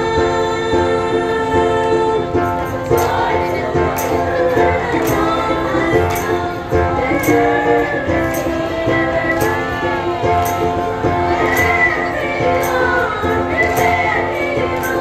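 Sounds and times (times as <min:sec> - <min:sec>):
choir singing in harmony: 0:00.0 - 0:15.0
high jingling beat: 0:00.0 - 0:15.0.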